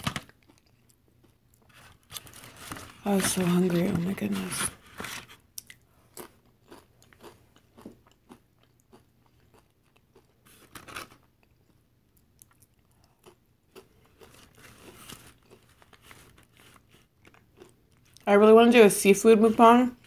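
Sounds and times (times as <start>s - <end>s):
tortilla chips crunching: 0.0s - 3.1s, 5.0s - 18.3s.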